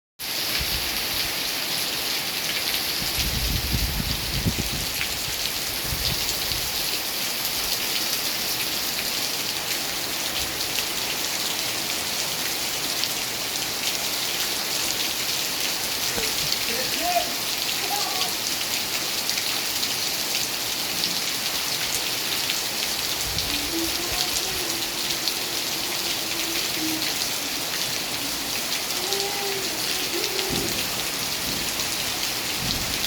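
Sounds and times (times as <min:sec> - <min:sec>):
steady rain falling: 0:00.2 - 0:33.0.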